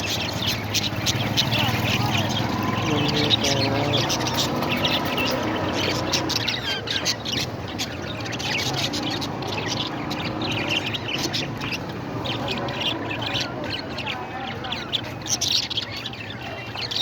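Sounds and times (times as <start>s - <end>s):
parrots chirping and squawking: 0.0s - 17.0s.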